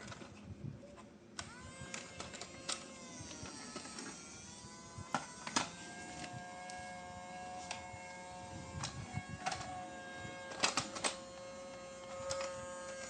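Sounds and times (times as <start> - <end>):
small electric motor whining: 1.4 - 13.0.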